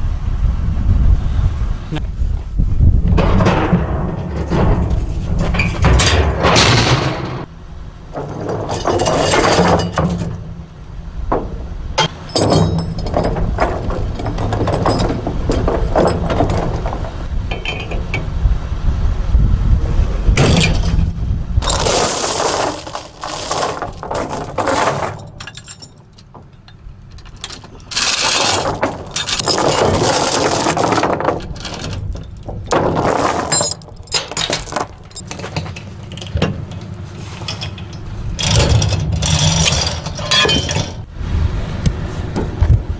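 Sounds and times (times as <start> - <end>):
heavy metal clanking and rattling: 2.8 - 18.8, 20.2 - 41.1.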